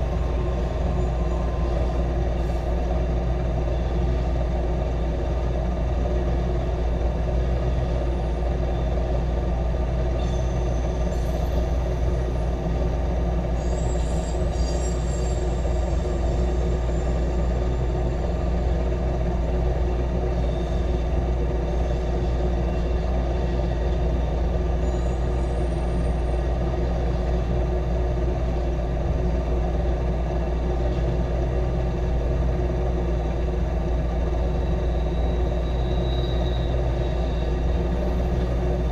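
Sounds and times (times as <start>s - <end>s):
high wheel squeals: 0.0s - 5.8s, 6.9s - 28.3s, 33.0s - 38.9s
freight train rumbling past: 0.0s - 38.9s.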